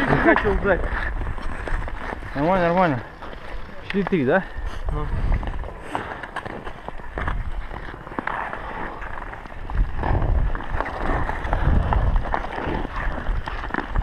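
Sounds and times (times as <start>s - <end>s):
wind buffeting microphone: 0.0s - 6.2s, 8.6s - 14.0s
ice skate blades scraping: 0.0s - 14.0s.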